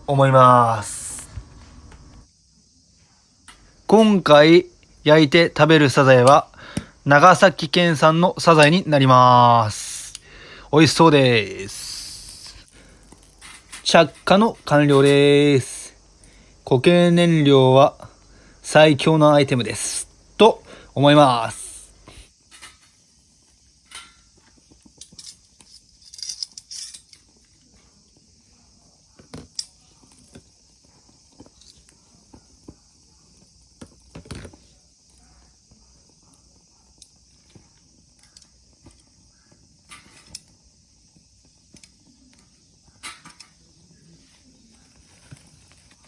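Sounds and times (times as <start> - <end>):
faint high hiss: 0.0 - 46.0.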